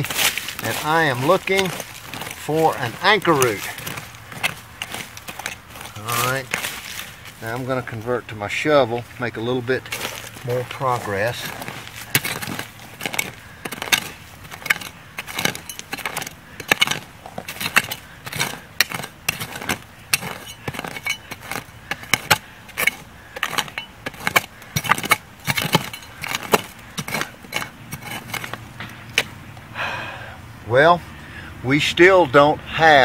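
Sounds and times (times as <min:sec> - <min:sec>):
hand shovel scraping gravelly soil: 0:00.0 - 0:29.5.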